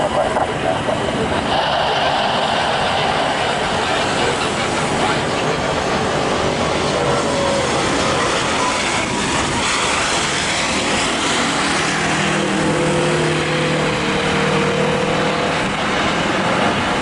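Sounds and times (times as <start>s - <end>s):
airliner jet engines landing: 0.0s - 17.0s
steady humming tones: 0.0s - 17.0s.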